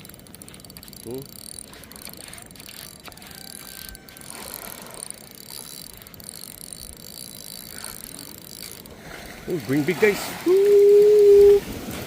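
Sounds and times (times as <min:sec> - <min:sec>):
fishing reel being cranked: 0:00.0 - 0:11.6.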